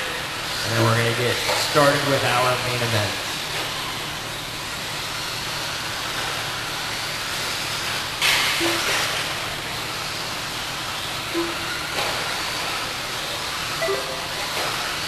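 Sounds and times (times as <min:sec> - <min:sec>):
electric rc trucks racing: 0:00.0 - 0:15.0.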